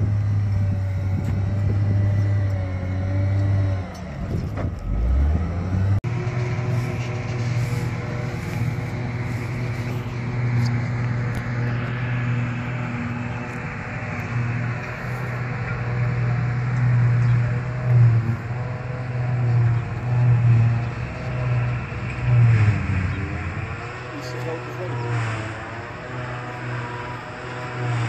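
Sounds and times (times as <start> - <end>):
tractor and harvester engines: 0.0 - 28.0.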